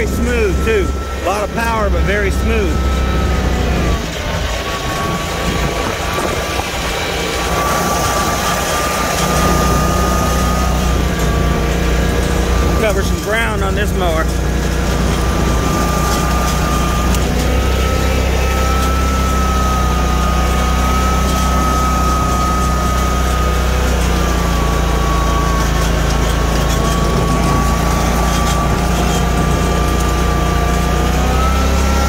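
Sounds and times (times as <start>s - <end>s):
mower engine running: 0.0s - 32.0s.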